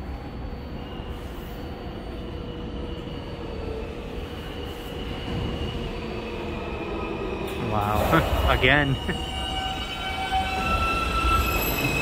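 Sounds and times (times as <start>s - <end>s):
subway train rumble and hum: 0.0s - 12.0s.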